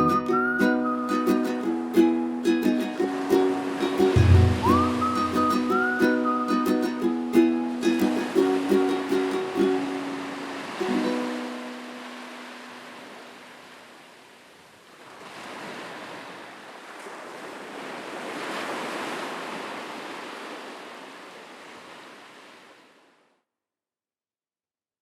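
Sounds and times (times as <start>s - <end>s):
sea waves surging onto shore: 0.0s - 23.2s.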